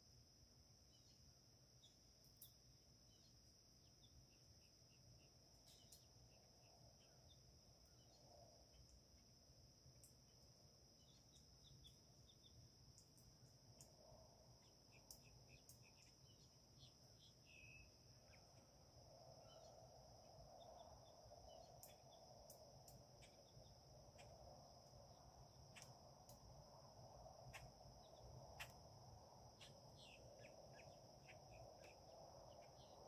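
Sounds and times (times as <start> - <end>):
small birds chirping: 0.9 - 9.3, 9.9 - 33.0.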